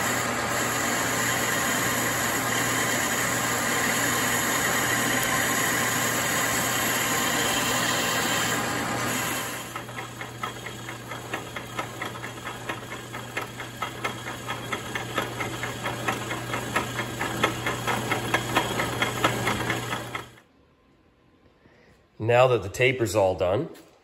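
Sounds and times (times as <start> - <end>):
lathe motor hum: 0.0 - 20.4.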